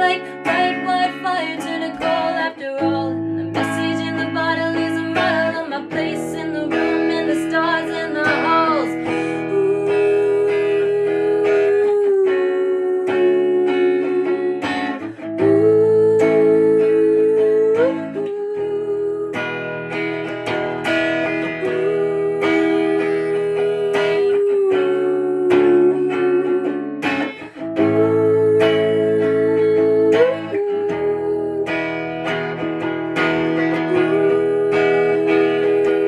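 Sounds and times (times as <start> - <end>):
guitar chords strummed and plucked: 0.0 - 36.0
sliding guitar melody note: 0.0 - 36.0.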